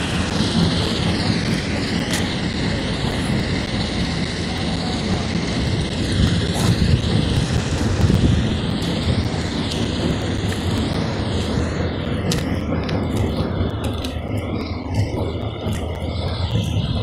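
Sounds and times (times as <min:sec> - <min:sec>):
aircraft flying overhead: 0:00.0 - 0:17.0.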